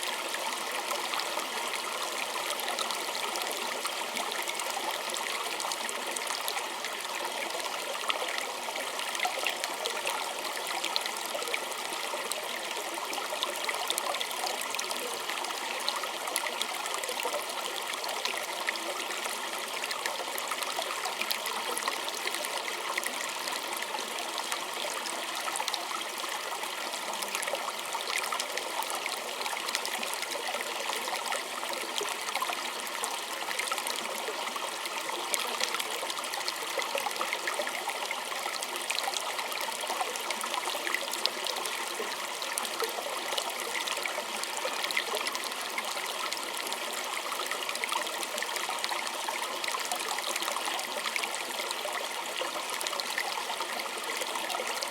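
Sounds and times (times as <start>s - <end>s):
stream babbling over stones: 0.0s - 54.9s.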